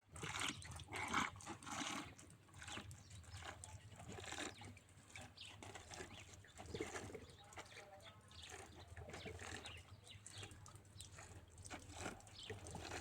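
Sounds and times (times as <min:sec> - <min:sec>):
camel slurping water: 0:00.0 - 0:13.0.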